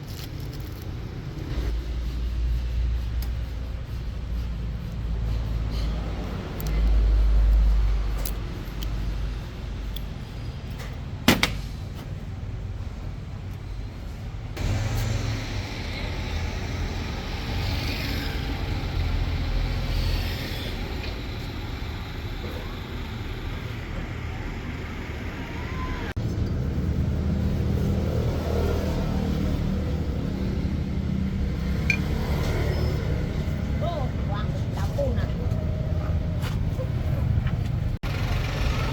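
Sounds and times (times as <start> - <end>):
vehicle engine rumble: 0.0 - 38.9.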